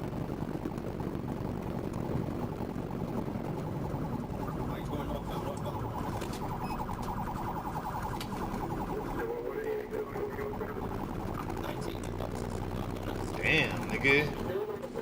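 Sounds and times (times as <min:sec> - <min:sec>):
car engine and road noise: 0:00.0 - 0:15.0
police siren warbling: 0:02.4 - 0:14.7.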